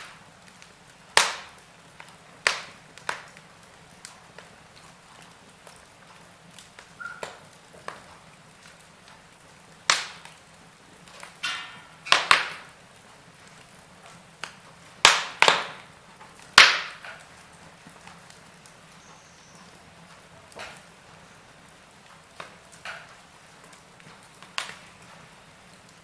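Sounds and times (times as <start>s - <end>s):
faint steady hiss: 0.0s - 26.0s
wood fire crackling: 0.0s - 26.0s.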